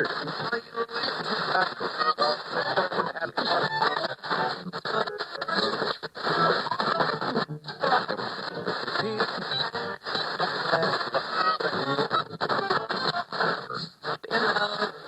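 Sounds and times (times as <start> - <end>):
muffled music over radio: 0.0 - 15.0
radio static: 0.0 - 15.0.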